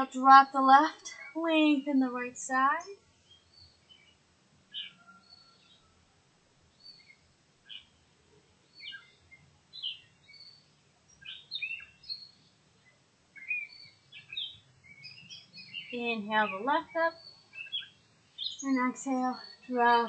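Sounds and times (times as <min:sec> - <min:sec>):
birds chirping: 0:00.0 - 0:05.9, 0:08.7 - 0:20.0
faint background hiss: 0:00.0 - 0:20.0.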